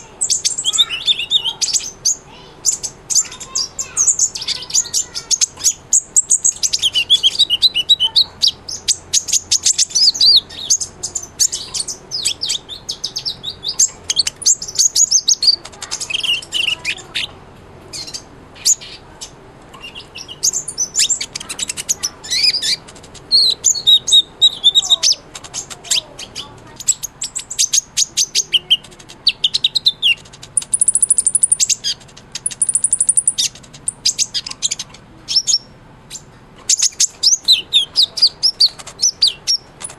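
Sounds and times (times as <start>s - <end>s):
sunbird chirping and trilling: 0.0s - 39.9s
thin buzzy bird trills: 0.0s - 39.9s.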